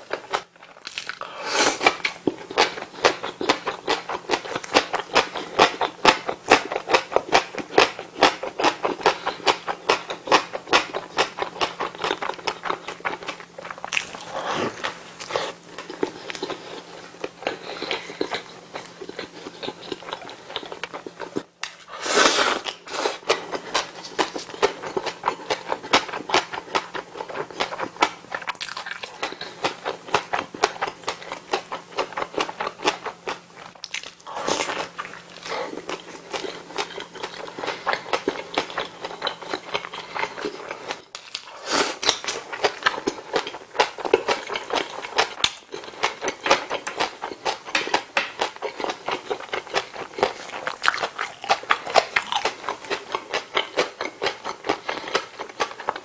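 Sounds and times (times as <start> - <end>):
crunchy wet chewing: 0.1 - 56.0.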